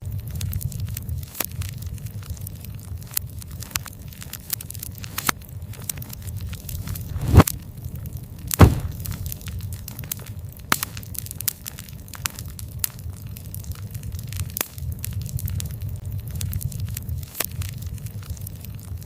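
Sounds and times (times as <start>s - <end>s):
low rumble of flame: 0.0s - 19.0s
campfire crackling and popping: 0.1s - 19.0s.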